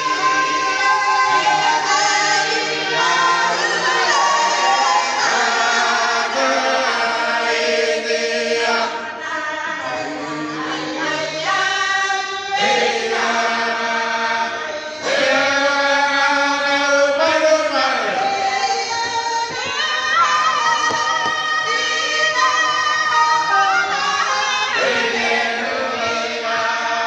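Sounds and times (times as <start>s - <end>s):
congregation singing a hymn: 0.0s - 27.0s.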